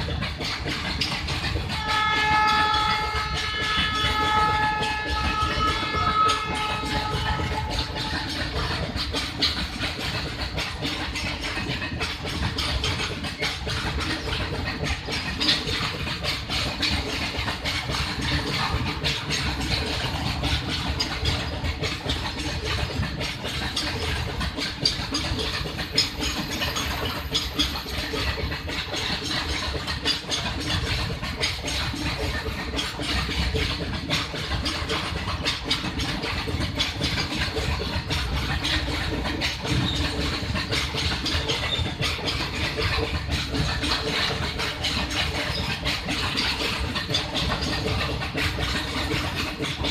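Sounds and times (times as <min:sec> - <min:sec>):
freight train rumble: 0:00.0 - 0:49.9.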